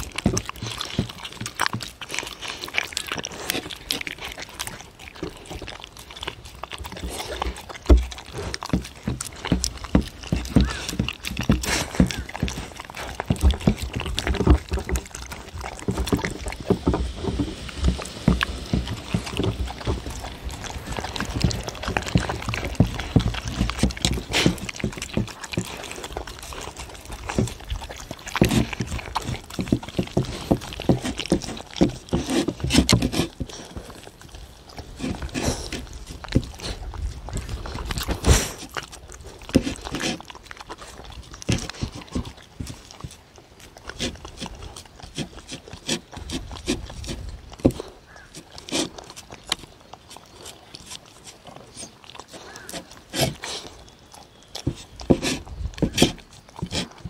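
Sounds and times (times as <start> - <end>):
dogs chewing and licking: 0.0 - 57.0.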